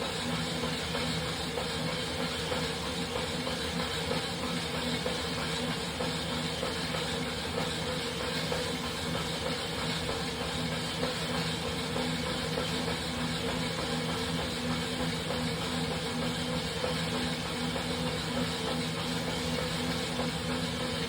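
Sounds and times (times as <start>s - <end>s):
roller trainer whirring hum: 0.0s - 21.0s.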